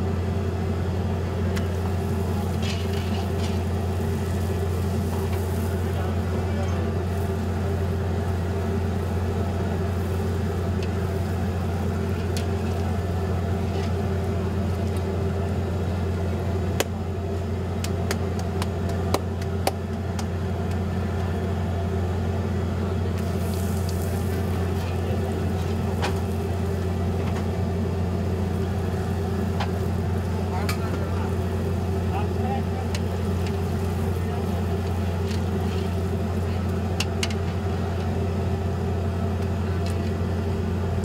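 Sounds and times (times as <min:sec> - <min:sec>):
bread deep-frying in oil: 0:00.0 - 0:41.0
steady low hum: 0:00.0 - 0:41.0.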